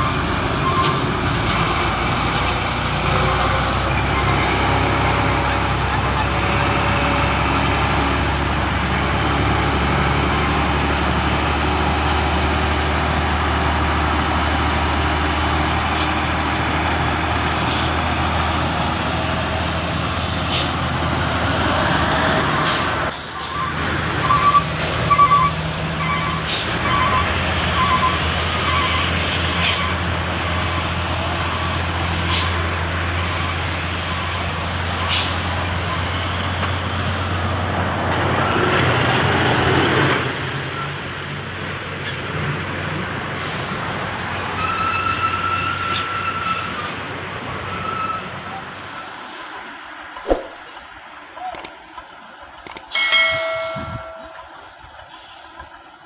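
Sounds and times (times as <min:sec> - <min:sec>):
truck engine droning: 0:00.0 - 0:56.0.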